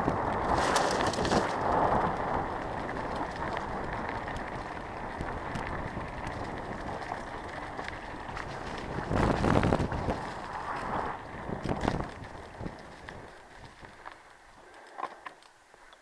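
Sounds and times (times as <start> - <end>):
bike rattles and ticks: 0.0 - 16.0
bike tyre and wind rumble: 0.0 - 16.0.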